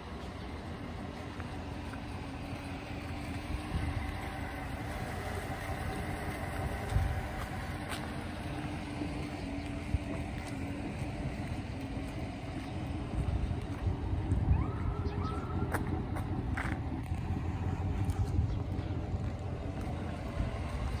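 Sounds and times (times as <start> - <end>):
pickup engine idling: 0.0 - 21.0
wind rumble on microphone: 2.7 - 21.0.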